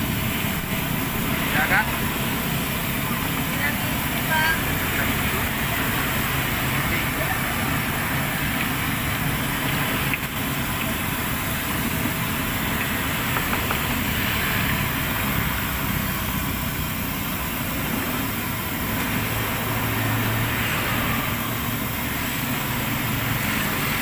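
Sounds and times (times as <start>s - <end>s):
fritters sizzling in hot oil: 0.0s - 24.0s.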